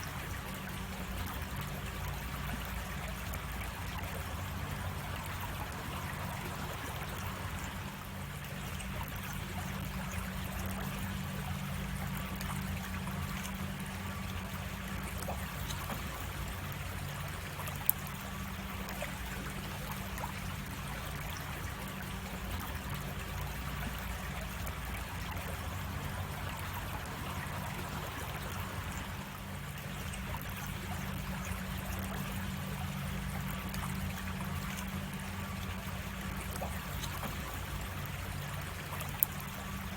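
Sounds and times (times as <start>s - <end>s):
creek water flowing over cascade: 0.0s - 39.9s.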